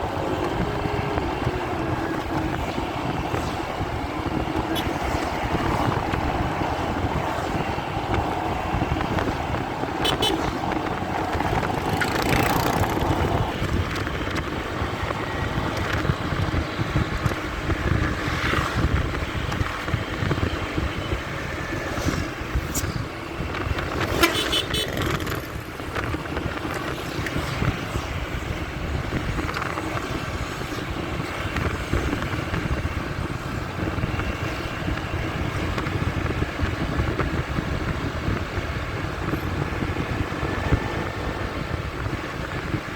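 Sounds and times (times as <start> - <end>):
muffled motorcycle rumble: 0.0 - 42.9.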